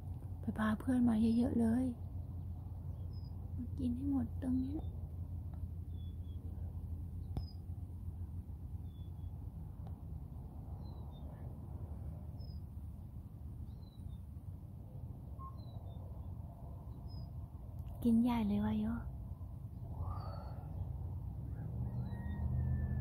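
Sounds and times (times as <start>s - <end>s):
low background rumble: 0.0s - 23.0s
small birds chirping: 0.2s - 23.0s.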